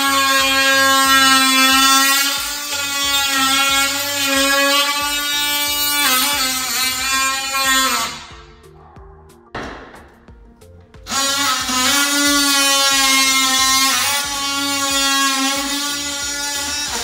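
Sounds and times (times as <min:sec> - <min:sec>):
multi-tool buzzing: 0:00.0 - 0:08.4, 0:11.0 - 0:17.0.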